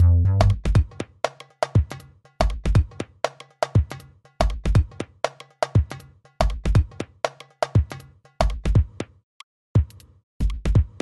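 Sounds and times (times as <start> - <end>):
electronic music with drum-machine beat: 0.0 - 9.2, 9.8 - 11.0.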